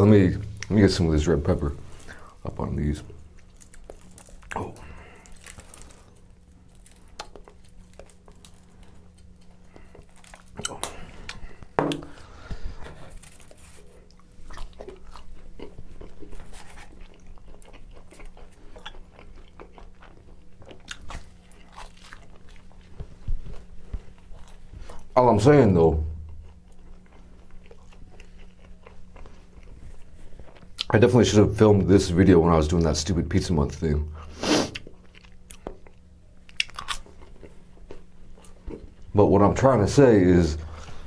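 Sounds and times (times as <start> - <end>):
chewing pizza crust: 1.9 - 25.2, 26.0 - 31.2, 34.6 - 39.2.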